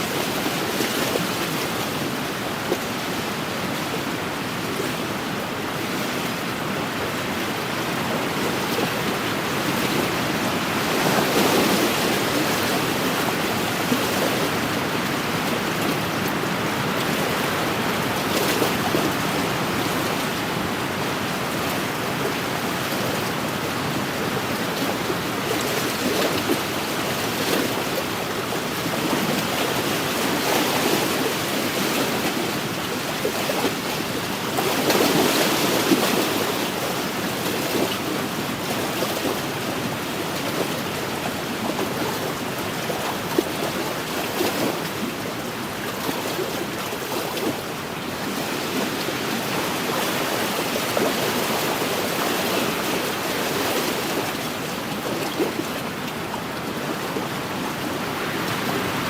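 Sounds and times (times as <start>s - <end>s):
lake waves washing ashore: 0.0s - 59.0s.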